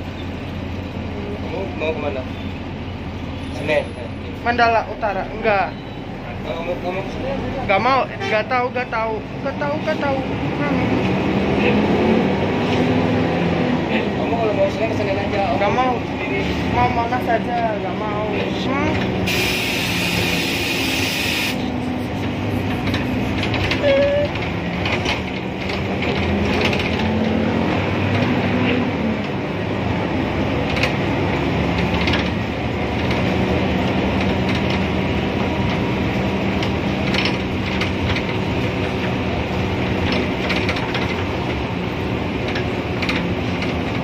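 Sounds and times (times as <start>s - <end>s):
bus running with road noise: 0.0s - 44.0s.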